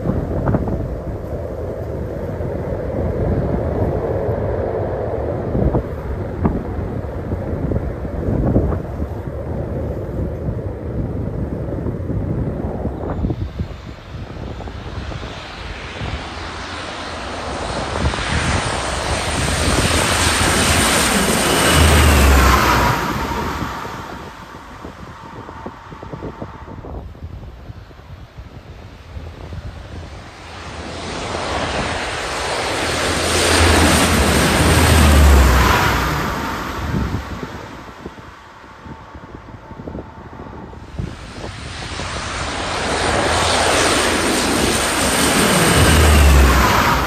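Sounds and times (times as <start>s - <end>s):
aircraft engine noise: 0.0s - 47.0s
wind buffeting microphone: 0.0s - 47.0s.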